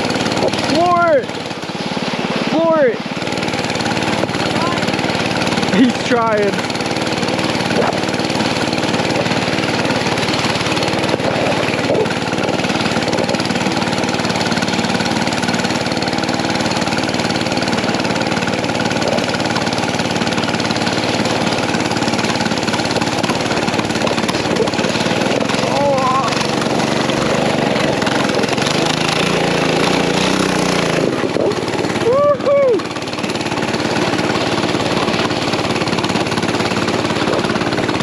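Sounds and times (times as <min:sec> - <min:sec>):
small gas engine running hard: 0:00.0 - 0:38.0.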